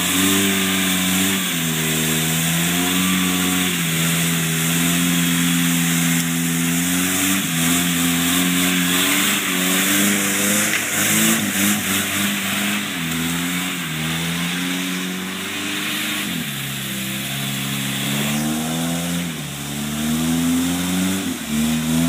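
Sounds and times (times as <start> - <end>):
engine revving: 0.0 - 22.0
tyres churning through mud: 0.0 - 22.0.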